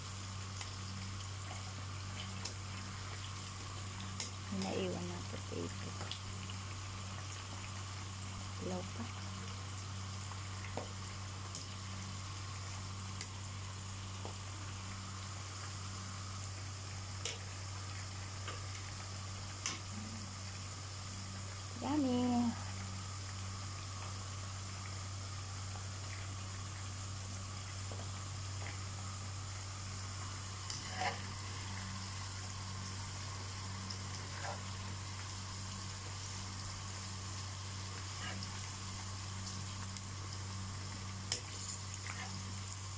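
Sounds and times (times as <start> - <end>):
oil sizzling with pops: 0.0 - 42.9.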